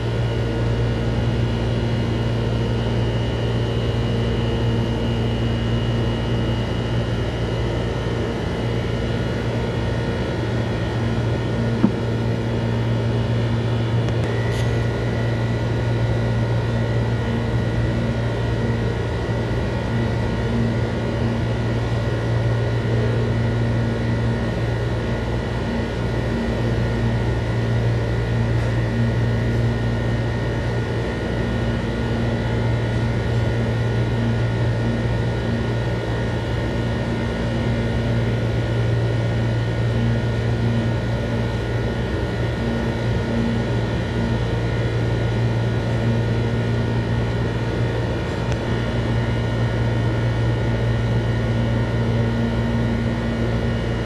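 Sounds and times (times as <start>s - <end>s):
low mechanical drone: 0.0s - 54.0s.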